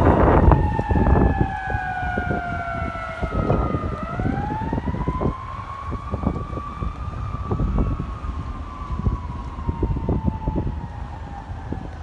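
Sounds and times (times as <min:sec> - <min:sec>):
distant siren wailing: 0:00.0 - 0:12.0.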